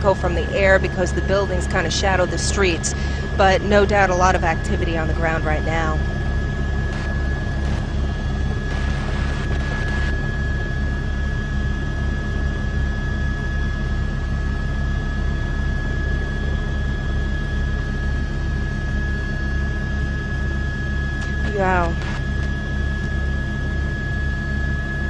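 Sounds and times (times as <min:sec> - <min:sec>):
helicopter rotor and engine: 0:00.0 - 0:25.0
thin high whine: 0:00.0 - 0:25.0.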